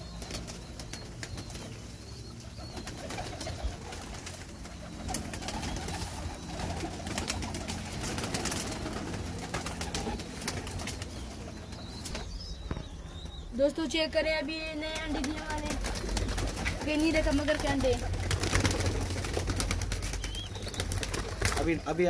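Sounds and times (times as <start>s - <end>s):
pigeons cooing: 0.0s - 22.0s
wings fluttering: 0.0s - 22.0s.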